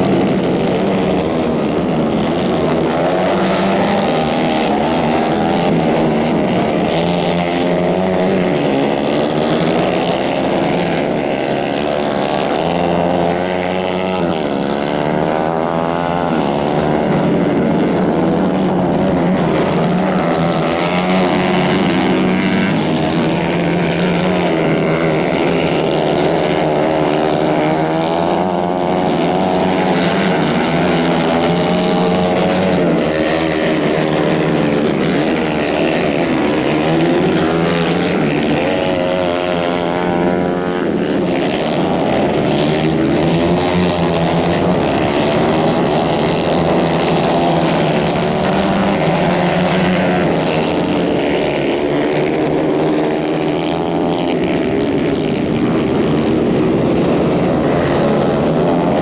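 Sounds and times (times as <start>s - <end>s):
kart engines racing: 0.0s - 59.0s.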